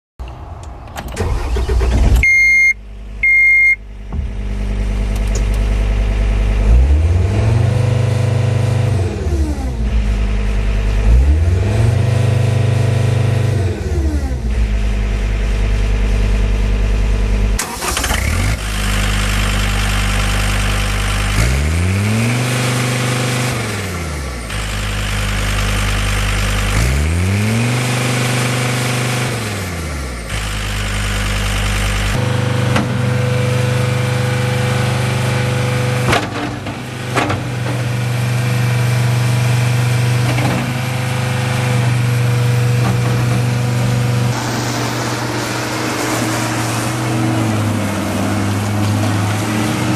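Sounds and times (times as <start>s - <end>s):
engine whine: 0.2s - 22.4s, 29.1s - 49.9s
diesel engine revving: 0.3s - 2.4s, 3.2s - 49.9s.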